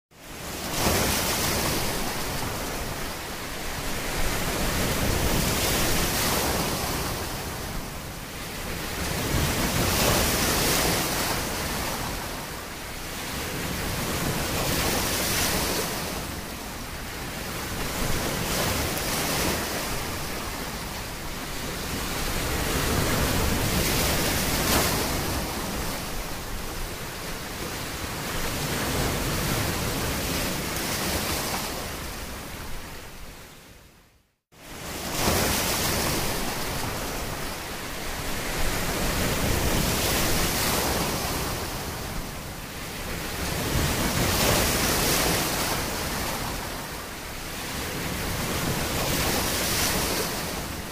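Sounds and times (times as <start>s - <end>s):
ocean waves washing: 0.2s - 33.8s, 34.6s - 50.9s.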